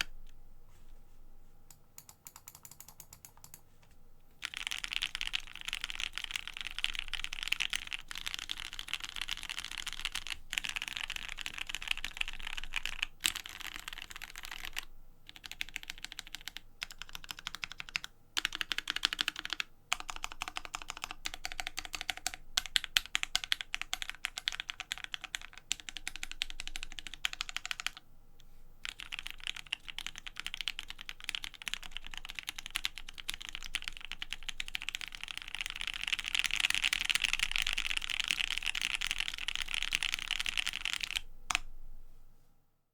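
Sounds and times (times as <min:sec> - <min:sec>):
fast mechanical keyboard typing: 0:02.0 - 0:03.6, 0:04.4 - 0:28.0, 0:28.8 - 0:41.6.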